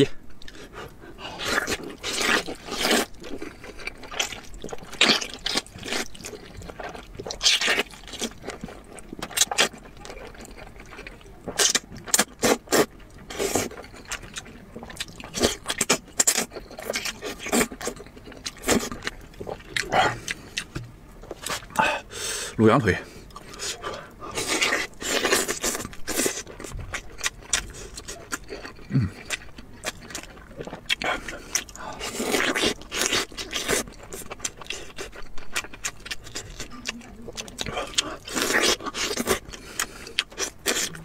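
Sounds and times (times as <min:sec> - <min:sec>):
chewing: 0:00.0 - 0:22.0, 0:23.3 - 0:41.0.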